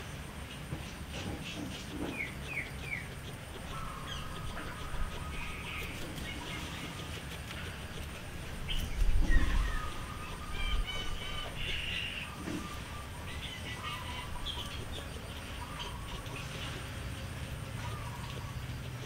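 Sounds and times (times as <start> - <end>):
birds chirping: 0.0 - 19.0
guinea pig chewing grass: 0.5 - 19.0.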